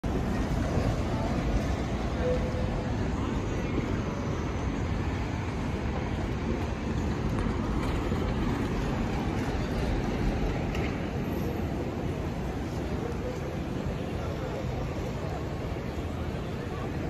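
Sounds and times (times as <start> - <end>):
traffic rumble: 0.0 - 17.0
trams: 0.0 - 17.0.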